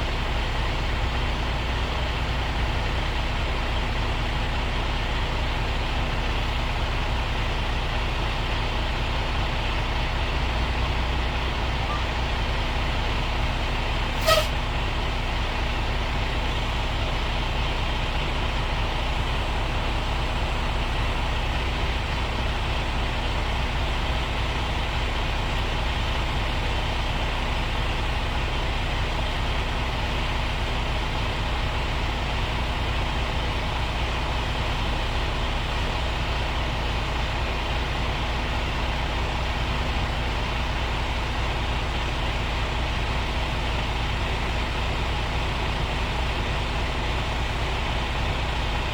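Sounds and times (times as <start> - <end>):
diesel truck engine idling: 0.0 - 48.9.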